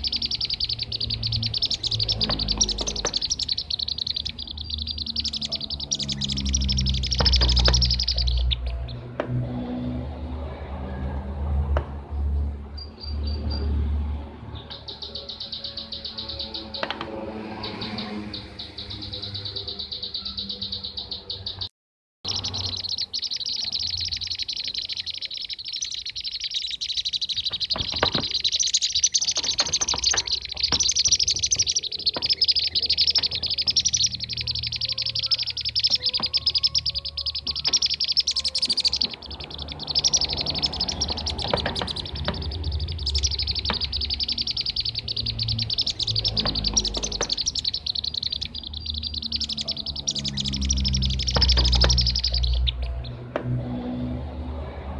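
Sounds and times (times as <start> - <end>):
bee-eaters chirping trills: 0.0 - 9.6, 12.8 - 21.7, 22.3 - 53.3.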